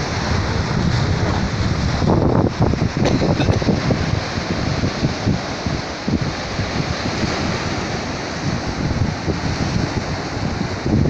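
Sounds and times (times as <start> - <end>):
surf washing over rocks: 0.0 - 11.0
wind on microphone: 0.0 - 11.0.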